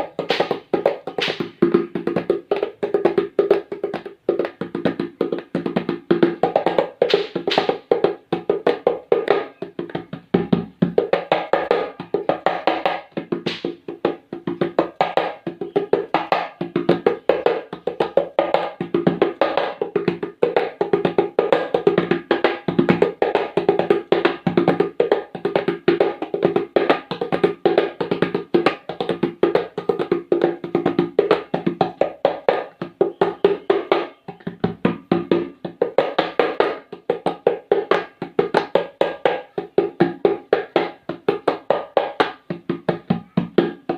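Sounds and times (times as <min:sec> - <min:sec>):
hand percussion rapid rhythm: 0:00.0 - 0:43.9.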